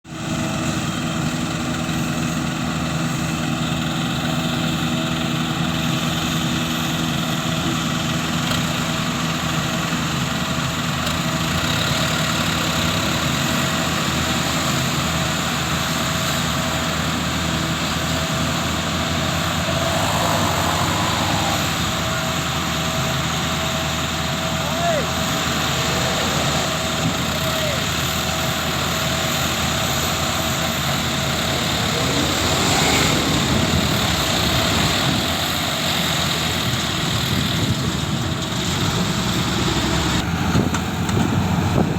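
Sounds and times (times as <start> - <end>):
diesel truck engine running: 0.1 - 41.9.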